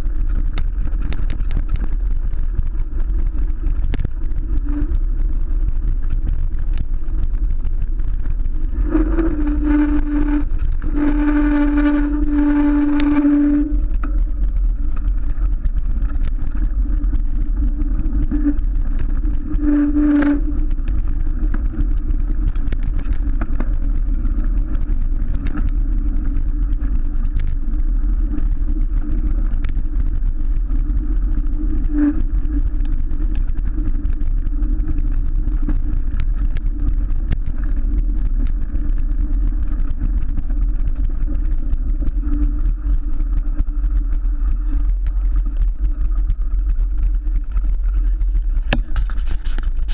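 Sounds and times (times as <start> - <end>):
buzzing hum: 0.0 - 49.9
rumble of wind and vibration: 0.0 - 49.9.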